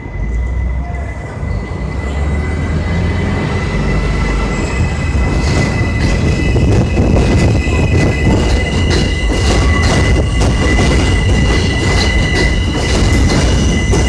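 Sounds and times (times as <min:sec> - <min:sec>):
high-pitched wheel squeal: 0:00.0 - 0:14.0
subway train rumble: 0:00.0 - 0:14.0.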